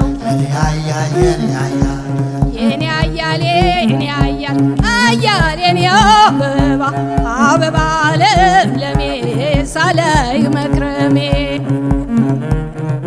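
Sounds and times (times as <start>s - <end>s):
woman singing: 0.0s - 12.2s
bowed string instrument: 0.0s - 13.0s
hand drum beat: 0.0s - 13.0s.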